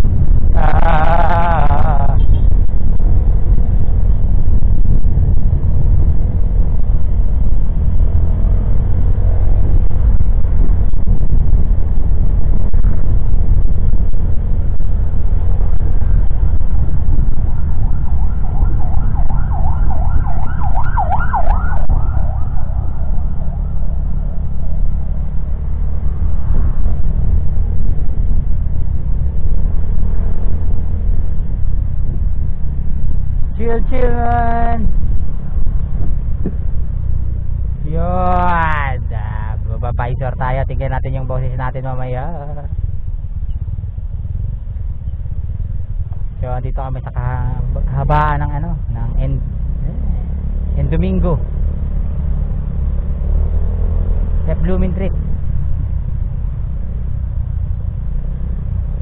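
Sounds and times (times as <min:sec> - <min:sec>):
wind noise: 0:00.0 - 0:50.6
motorcycle engine rumble: 0:00.0 - 0:59.0.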